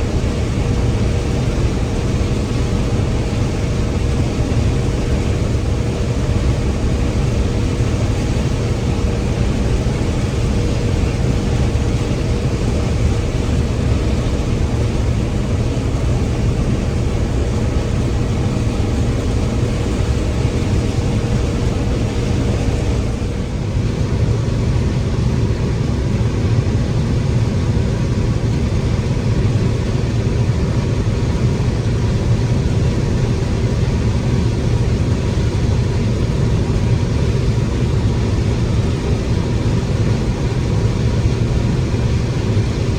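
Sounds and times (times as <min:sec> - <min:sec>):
combine harvester engine drone: 0:00.0 - 0:42.9
faint steady hum: 0:00.0 - 0:42.9.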